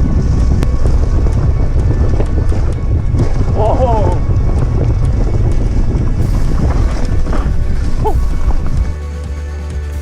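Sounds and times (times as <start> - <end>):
wind buffeting microphone: 0.0 - 9.0
low rumble: 0.0 - 9.5.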